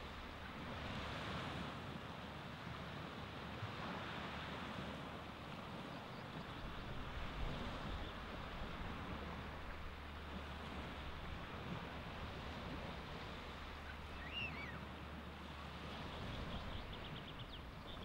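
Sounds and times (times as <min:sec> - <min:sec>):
small waves hissing on beach: 0:00.0 - 0:18.0.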